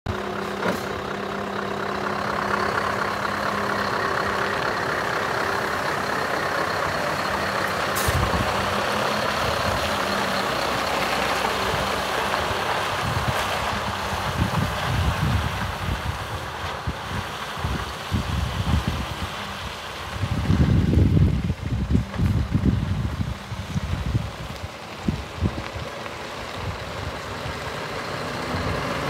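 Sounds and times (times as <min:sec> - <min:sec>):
diesel truck engine: 0:00.0 - 0:29.0
tyres on gravel: 0:00.1 - 0:29.0.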